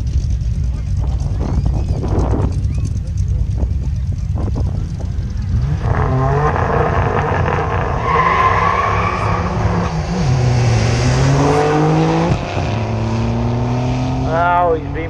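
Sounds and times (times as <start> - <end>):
drag cars accelerating hard: 0.9 - 15.0.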